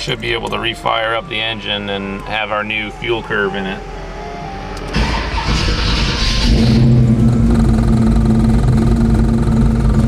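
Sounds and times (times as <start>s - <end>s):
car engine starting and idling: 0.0s - 10.0s.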